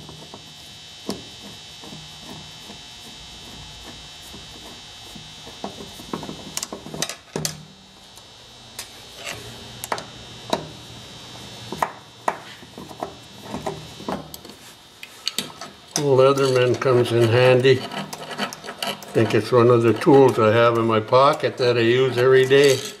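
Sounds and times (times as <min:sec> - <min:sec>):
steady high whine: 0:00.0 - 0:23.0.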